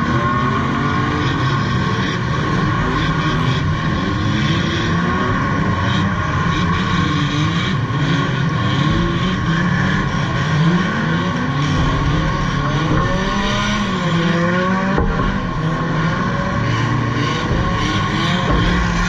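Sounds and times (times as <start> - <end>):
car engines revving: 0.0 - 19.0
cars knocking together: 2.2 - 19.0.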